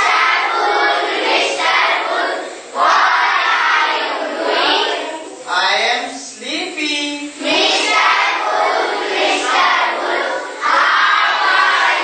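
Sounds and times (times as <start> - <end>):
young children chanting: 0.0 - 5.5, 7.4 - 12.0.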